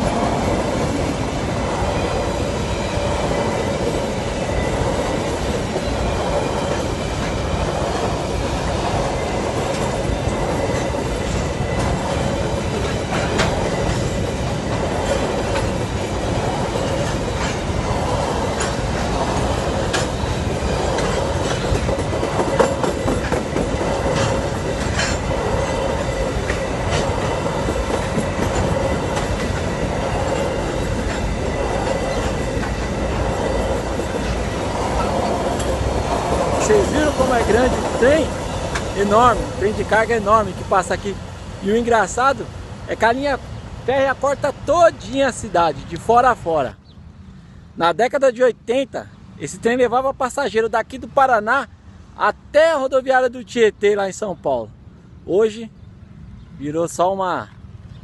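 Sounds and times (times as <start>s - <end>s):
train cars clanking: 0.0s - 46.7s
train wheels rumbling on rails: 0.0s - 46.9s.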